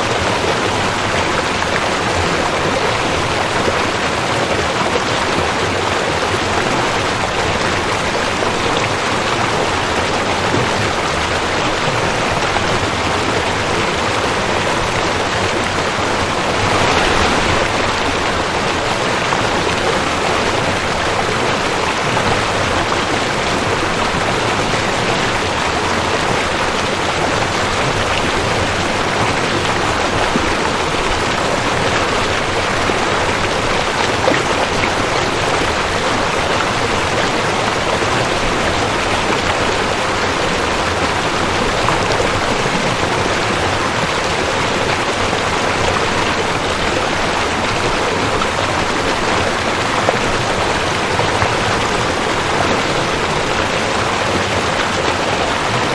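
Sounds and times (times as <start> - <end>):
creek water rushing: 0.0 - 55.9.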